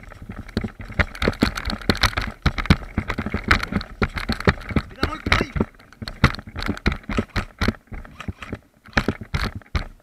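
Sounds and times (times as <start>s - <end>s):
gear rattling: 0.0s - 10.0s.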